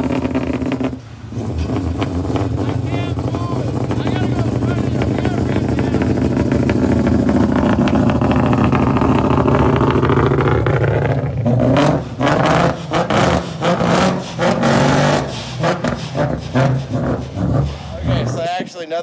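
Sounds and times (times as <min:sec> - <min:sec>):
loud car engine and exhaust: 0:00.0 - 0:18.8.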